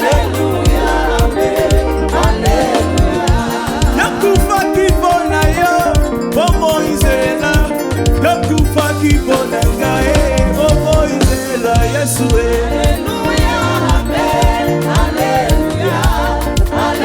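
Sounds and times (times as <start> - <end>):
drum hits: 0.0 - 17.0
gospel band playing: 0.0 - 17.0
voices singing: 0.0 - 17.0.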